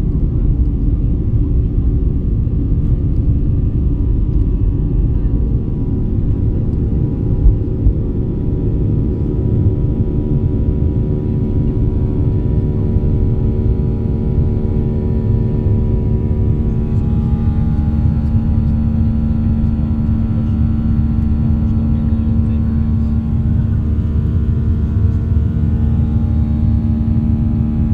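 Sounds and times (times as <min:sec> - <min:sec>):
airliner engines rumbling: 0:00.0 - 0:27.9.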